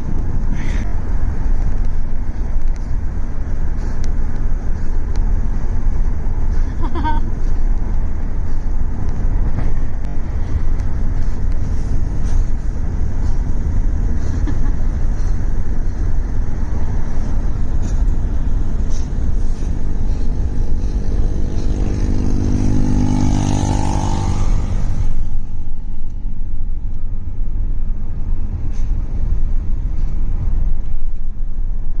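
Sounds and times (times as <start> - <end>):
road rumble: 0.0 - 32.0
wind buffeting through car window: 0.0 - 32.0.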